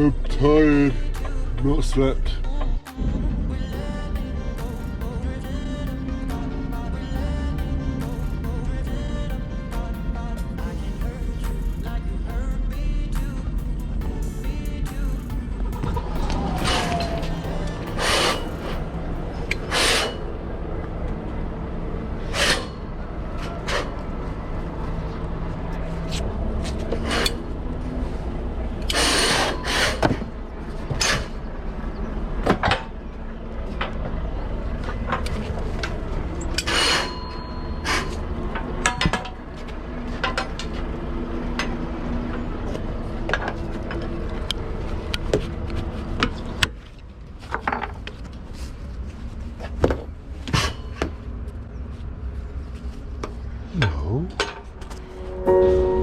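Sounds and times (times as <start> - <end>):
steady low hum: 0.0 - 47.5, 48.2 - 56.0.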